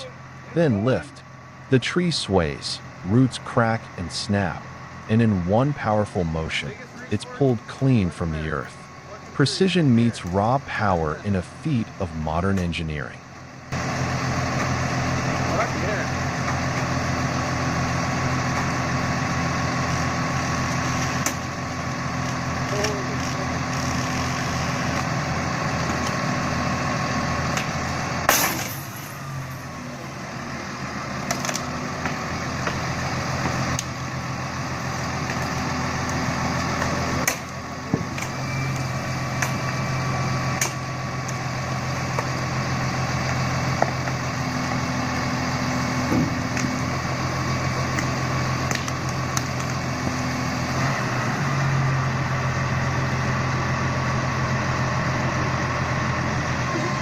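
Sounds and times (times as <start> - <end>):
heavy machine engine running: 0.0 - 57.0.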